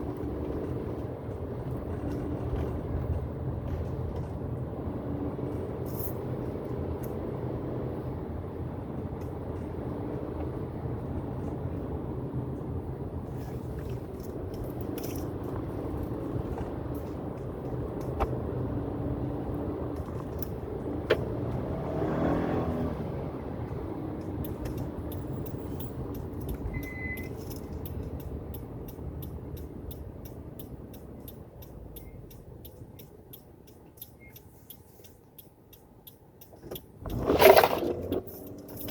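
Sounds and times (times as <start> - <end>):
car engine drone: 0.0 - 38.9
road noise: 0.0 - 38.9.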